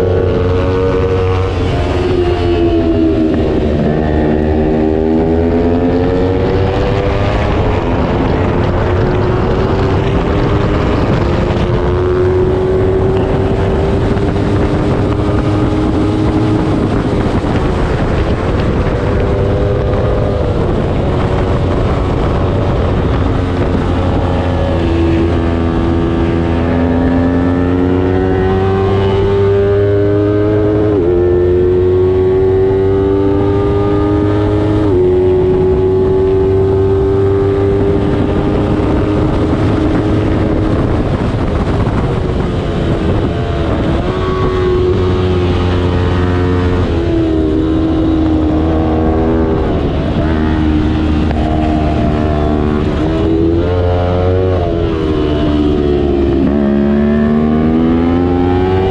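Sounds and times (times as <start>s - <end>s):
motorcycle engine revving high: 0.0s - 58.9s.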